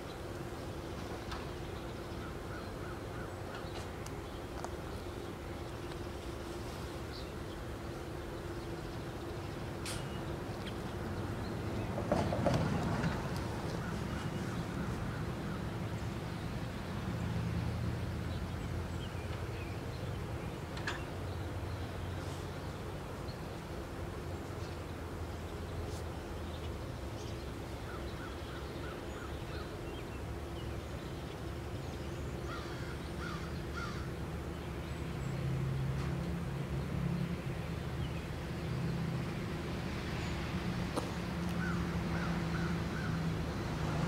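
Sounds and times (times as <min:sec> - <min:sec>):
birds calling: 0:00.0 - 0:36.5, 0:40.2 - 0:44.0.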